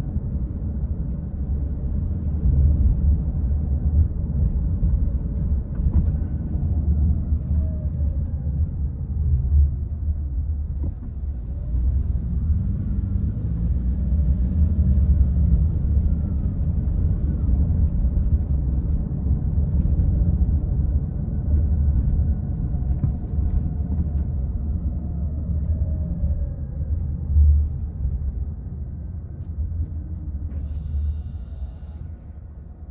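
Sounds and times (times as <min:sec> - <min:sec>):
car engine and tyres rumbling: 0:00.0 - 0:32.9.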